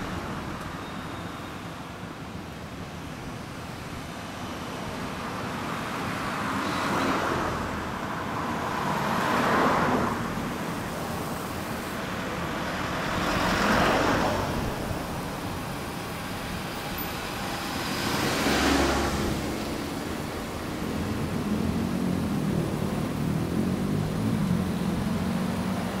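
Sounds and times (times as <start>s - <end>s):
cars passing close by: 3.2s - 26.0s.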